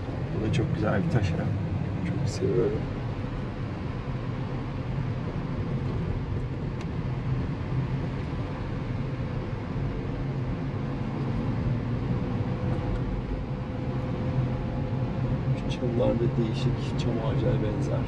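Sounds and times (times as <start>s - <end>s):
car engine and tyre drone: 0.0s - 18.0s.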